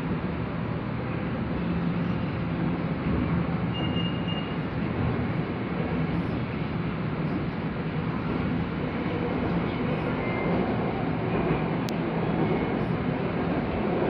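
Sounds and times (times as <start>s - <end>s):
train rolling on track: 0.0s - 14.0s.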